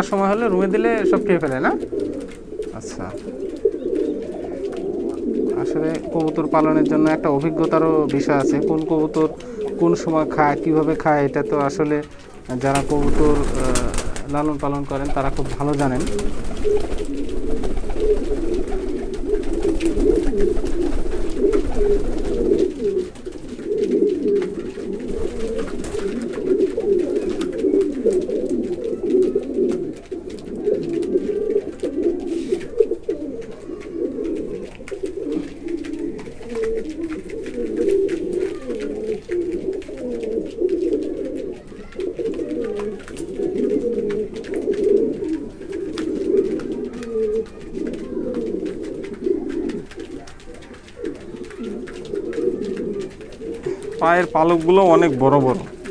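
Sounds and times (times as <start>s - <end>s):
pigeons cooing: 0.0s - 55.9s.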